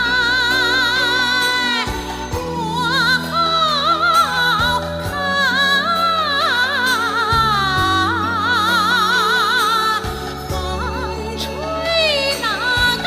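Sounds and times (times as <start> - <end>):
person singing with vibrato: 0.0 - 13.0
sustained chords and bass line: 0.0 - 13.0.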